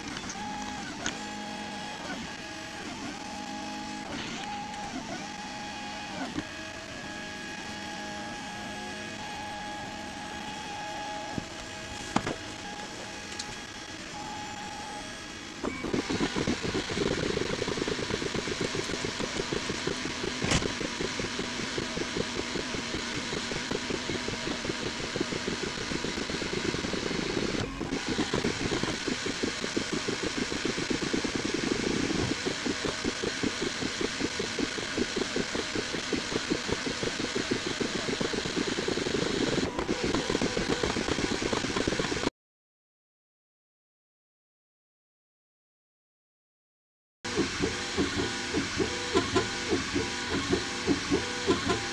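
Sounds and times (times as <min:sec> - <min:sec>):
stepper motors buzzing and whirring: 0:00.0 - 0:42.3, 0:47.3 - 0:51.9.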